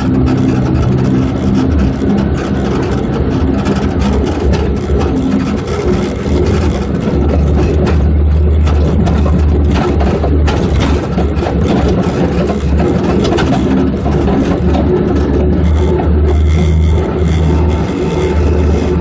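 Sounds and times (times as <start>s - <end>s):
body and chassis rattling: 0.0s - 19.0s
vehicle engine running: 0.0s - 19.0s.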